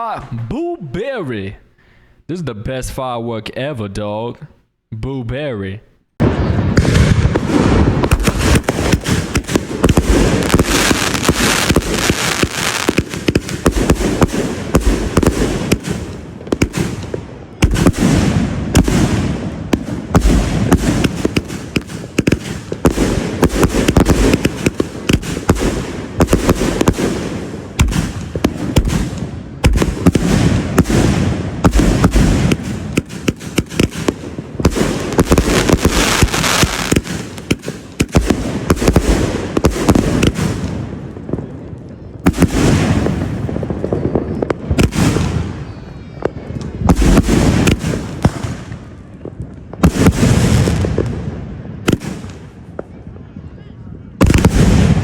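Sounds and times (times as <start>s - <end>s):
firework bangs and crackles: 6.2s - 55.0s.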